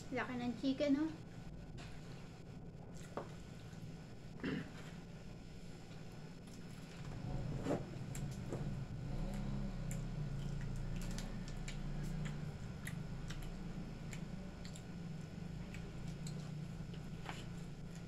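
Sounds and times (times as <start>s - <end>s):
steady low hum: 0.0s - 18.0s
people chewing food: 1.8s - 18.0s.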